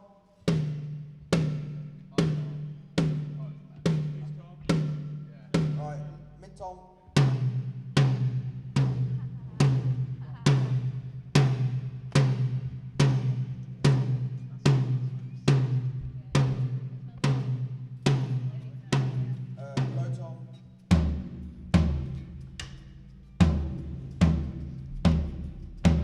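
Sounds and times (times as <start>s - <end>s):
tom drum hits: 0.5s - 6.2s, 7.2s - 20.1s, 20.9s - 26.0s.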